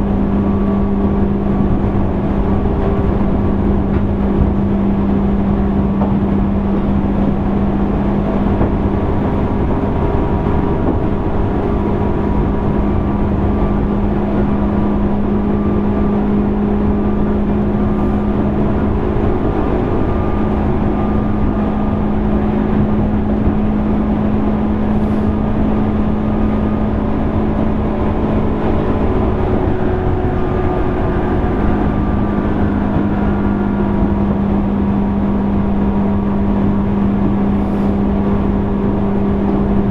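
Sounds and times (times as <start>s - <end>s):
electric train motor hum: 0.0s - 39.9s
wheels rumbling on track: 0.0s - 39.9s.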